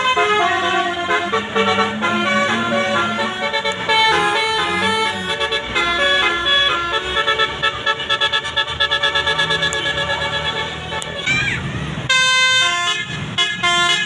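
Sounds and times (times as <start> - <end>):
bus multi-tone horn tune: 0.0 - 14.0.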